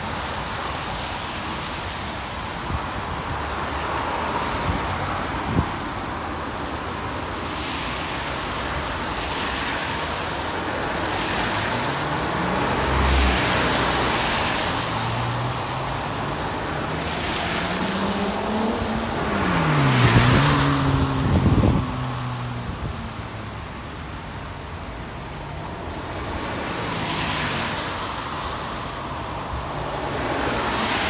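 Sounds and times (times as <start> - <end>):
vehicles passing tyre noise: 0.0 - 31.0.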